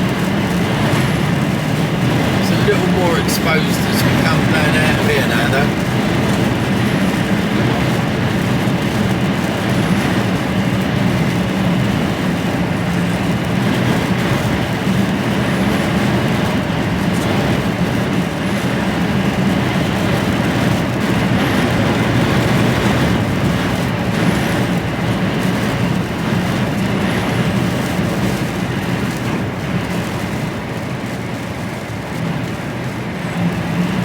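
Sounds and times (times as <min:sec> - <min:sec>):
road and wind noise: 0:00.0 - 0:34.0.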